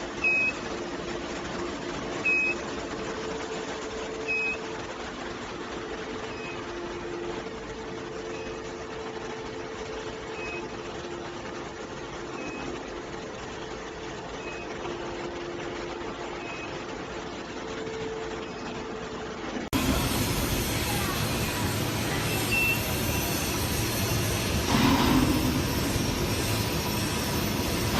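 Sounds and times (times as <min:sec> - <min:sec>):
machine hum with low tones: 0:00.0 - 0:27.9.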